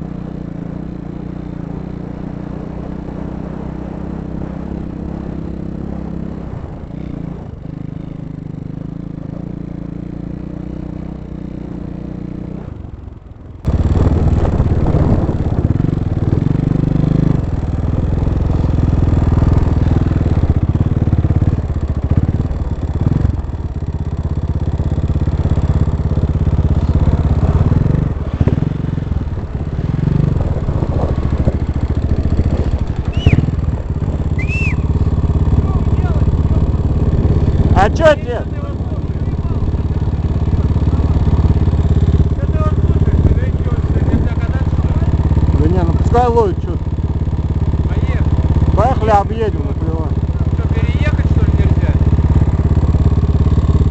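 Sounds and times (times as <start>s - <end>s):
dirt bike engines revving: 0.0s - 12.7s, 13.6s - 53.9s.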